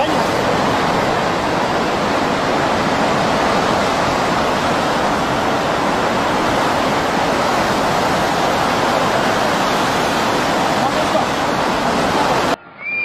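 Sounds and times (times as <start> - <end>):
seawater rushing and churning: 0.0 - 12.6.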